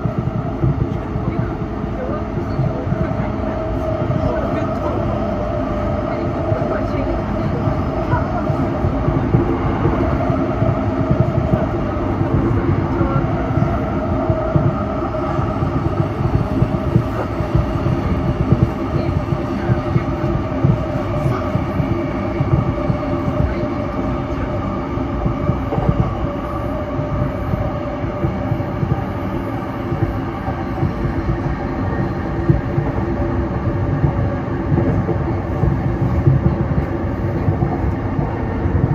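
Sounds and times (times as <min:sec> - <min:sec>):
steady train whine: 0:00.0 - 0:38.9
wheels rumbling on rail: 0:00.0 - 0:38.9.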